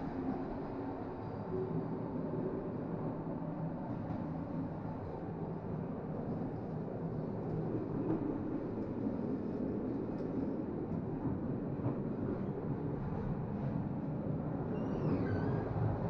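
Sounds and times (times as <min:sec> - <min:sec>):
low rumble inside train carriage: 0:00.0 - 0:16.0.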